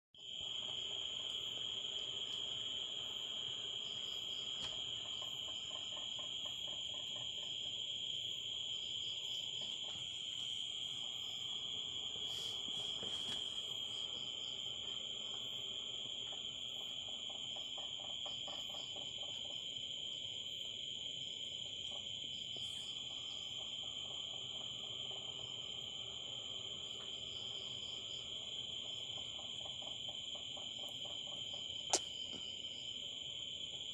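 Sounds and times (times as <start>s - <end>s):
crickets trilling: 0.2s - 33.9s.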